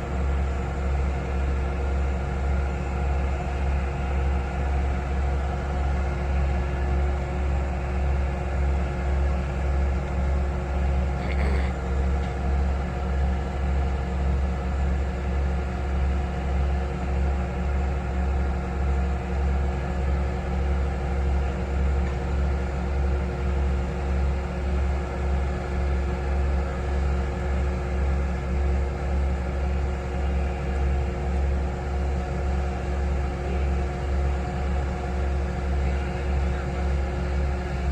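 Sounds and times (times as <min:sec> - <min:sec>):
heavy diesel engine rumbling: 0:00.0 - 0:37.9.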